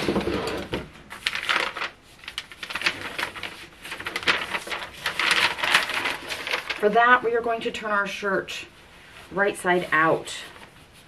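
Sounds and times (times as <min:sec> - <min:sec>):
paper rustling and crinkling: 0:00.0 - 0:07.3, 0:09.2 - 0:11.0.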